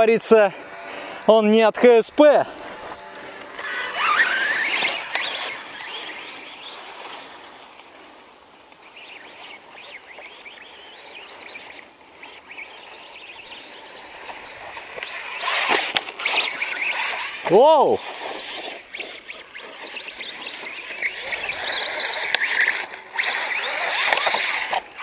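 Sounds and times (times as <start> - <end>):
electric motor whining: 0.0 - 25.0.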